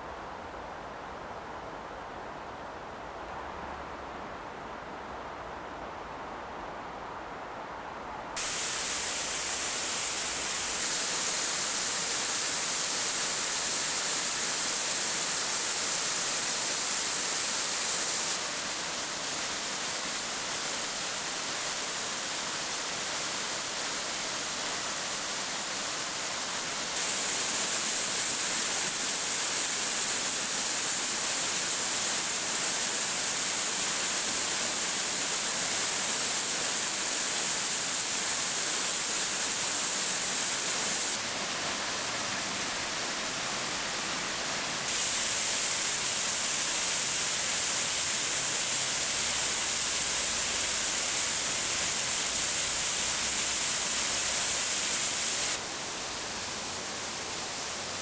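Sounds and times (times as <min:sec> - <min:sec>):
waterfall rushing: 0:08.4 - 0:58.0.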